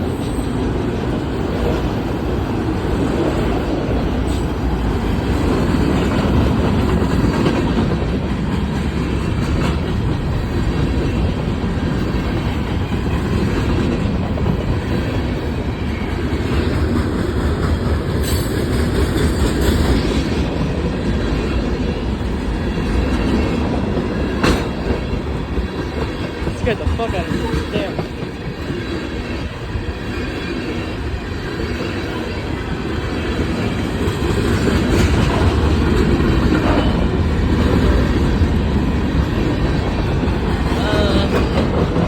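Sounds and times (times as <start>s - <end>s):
train wheels clattering on rails: 0.0s - 42.0s.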